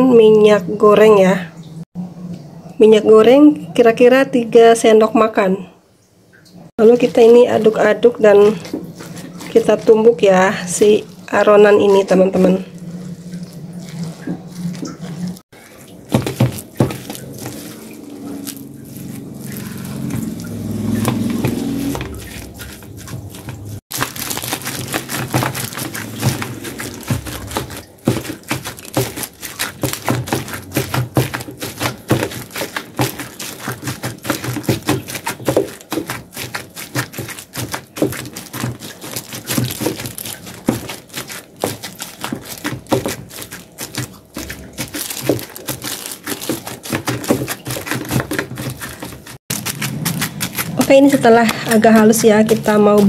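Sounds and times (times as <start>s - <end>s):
metal spoon mashing rice in pot: 6.8s - 53.0s.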